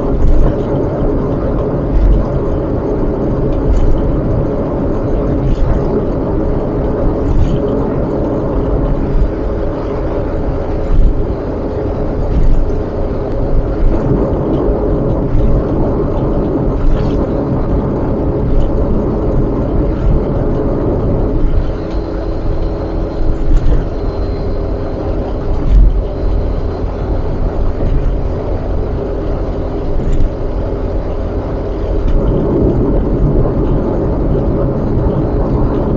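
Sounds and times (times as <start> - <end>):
car road and engine rumble: 0.0 - 35.9.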